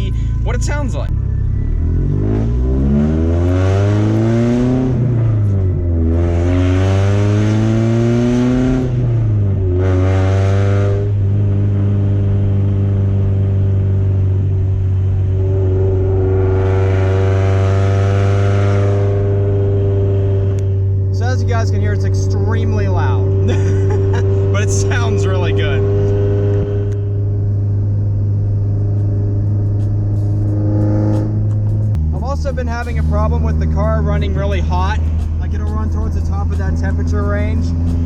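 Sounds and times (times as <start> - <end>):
loud car engine accelerating: 1.1 - 38.0.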